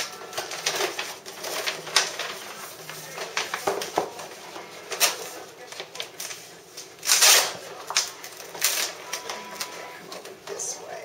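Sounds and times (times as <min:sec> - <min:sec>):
vinyl film crackling and rustling: 0:00.0 - 0:11.0.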